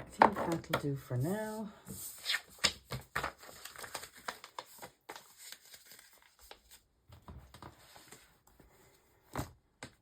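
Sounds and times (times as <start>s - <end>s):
pages rustling: 0.2s - 9.5s.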